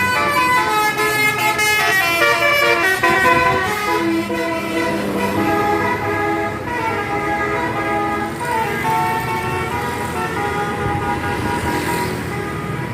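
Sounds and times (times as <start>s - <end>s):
bus musical horn: 0.0s - 12.9s
engine and road noise: 0.0s - 12.9s.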